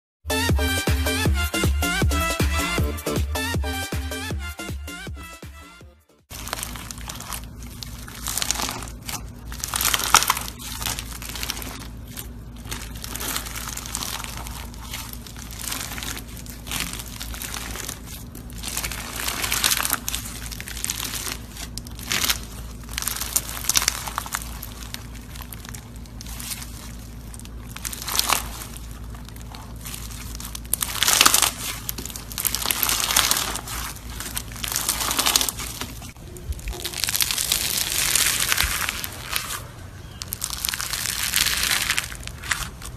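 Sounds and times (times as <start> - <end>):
slime crackling: 6.3 - 42.9.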